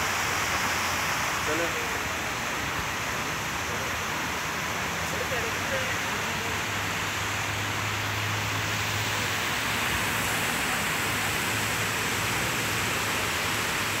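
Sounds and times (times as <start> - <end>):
steady outdoor rushing noise: 0.0 - 14.0.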